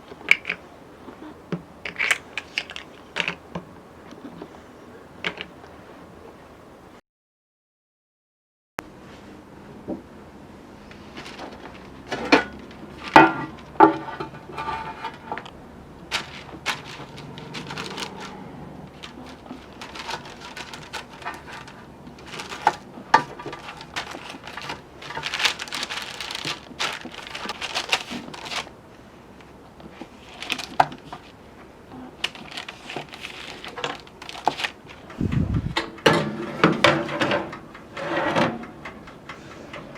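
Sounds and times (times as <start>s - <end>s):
hands handling baking tools: 0.0s - 5.8s, 10.9s - 28.8s, 29.4s - 39.9s.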